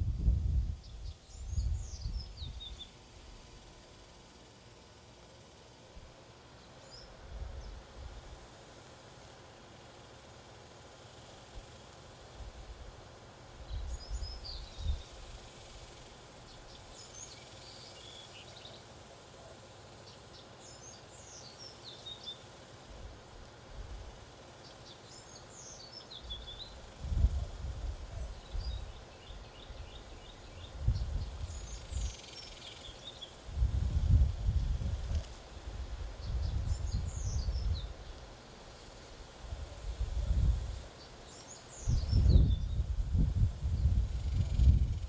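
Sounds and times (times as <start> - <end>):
faint outdoor background: 0.0 - 45.0
songbirds chirping: 0.7 - 45.0.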